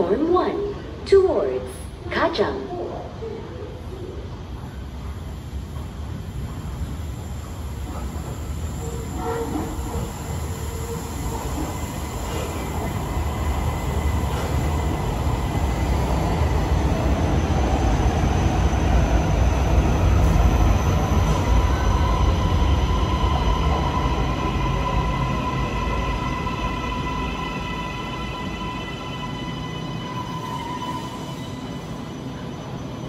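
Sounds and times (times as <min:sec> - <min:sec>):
high train whine: 0:00.0 - 0:33.0
train rumble: 0:01.7 - 0:33.0.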